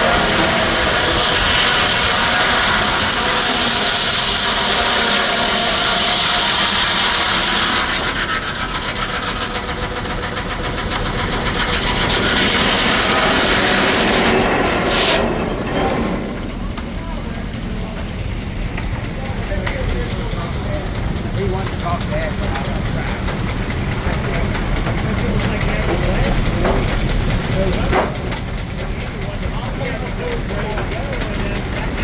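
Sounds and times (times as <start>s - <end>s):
circular saw cutting log: 0.0s - 28.5s.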